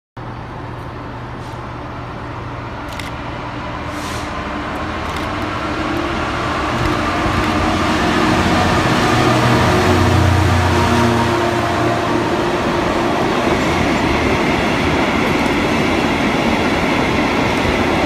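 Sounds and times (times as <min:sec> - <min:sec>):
diesel locomotive engine drone: 0:00.2 - 0:18.0
train running noise: 0:00.2 - 0:18.0.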